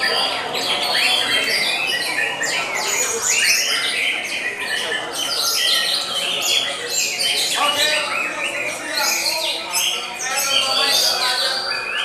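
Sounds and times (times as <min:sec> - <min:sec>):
birds singing in chorus: 0:00.0 - 0:12.0.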